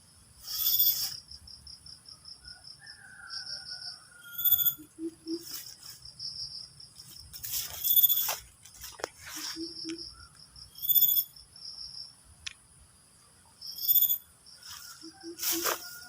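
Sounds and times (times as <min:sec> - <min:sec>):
insects chirping in pulses: 0:00.0 - 0:16.0.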